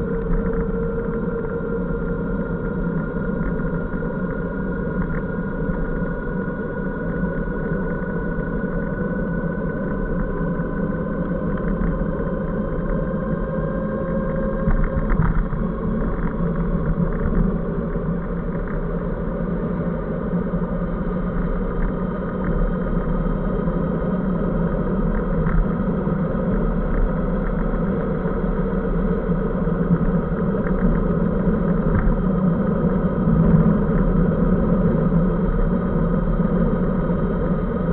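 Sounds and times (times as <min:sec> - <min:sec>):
road and wind rumble: 0:00.0 - 0:37.9.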